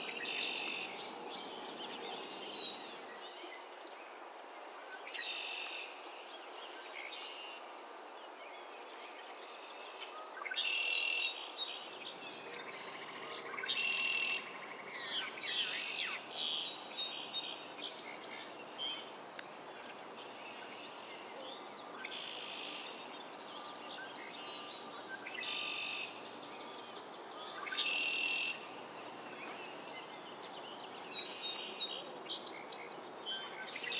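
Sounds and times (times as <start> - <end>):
loud bird song phrase: 0.0 - 33.9.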